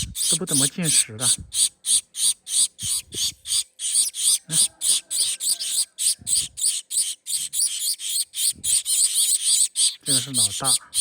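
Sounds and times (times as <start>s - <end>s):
finch chicks begging calls: 0.0s - 11.0s.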